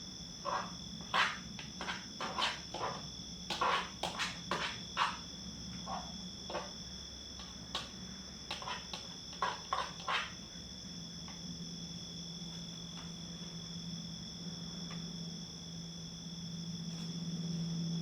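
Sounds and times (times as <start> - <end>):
crickets trilling: 0.0 - 18.0
faint low hum: 0.0 - 18.0.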